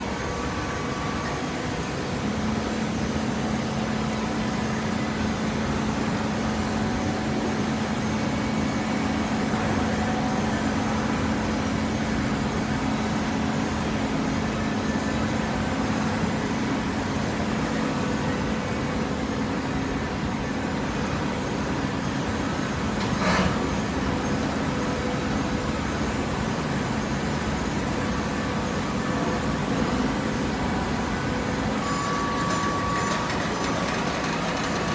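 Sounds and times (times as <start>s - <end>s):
baler machine drone: 0.0s - 34.9s.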